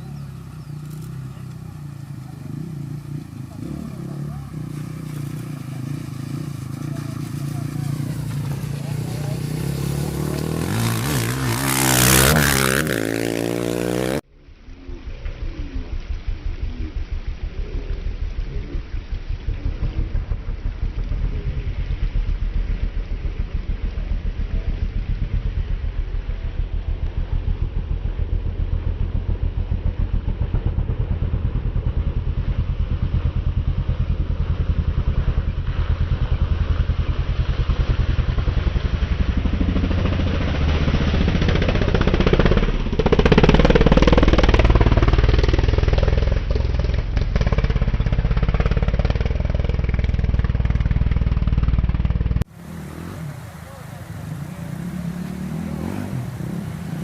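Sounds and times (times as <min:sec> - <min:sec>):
motorcycle engine revving: 0:00.0 - 0:14.3, 0:15.2 - 0:57.0.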